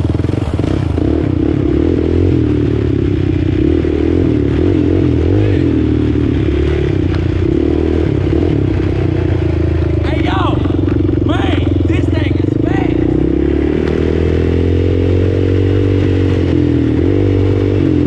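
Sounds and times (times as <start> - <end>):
atv engine idling: 0.0 - 14.8.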